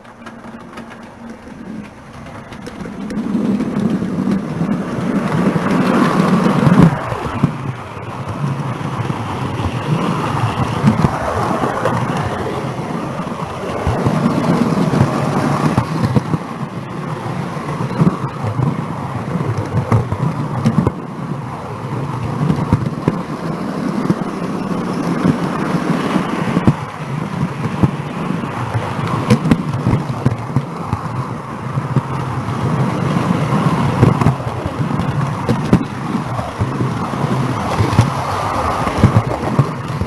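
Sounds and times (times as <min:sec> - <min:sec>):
model train rumble: 0:00.0 - 0:40.0.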